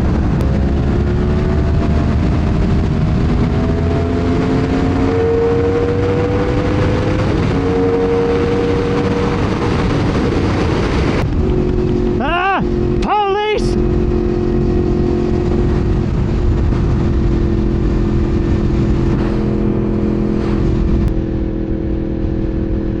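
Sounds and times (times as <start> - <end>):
motorcycle engine at speed: 0.0 - 23.0
wind rush on microphone: 0.0 - 23.0.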